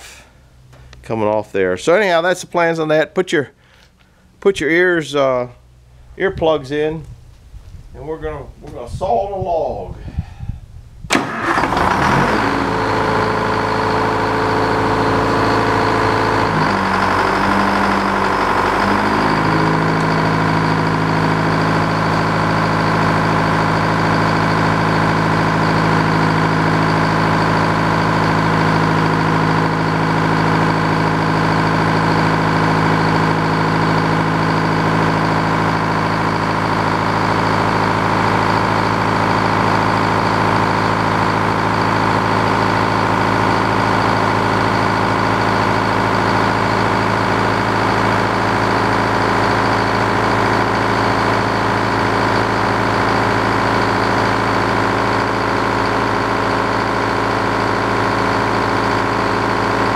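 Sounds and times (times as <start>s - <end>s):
sawmill engine starting and running: 11.1s - 59.9s.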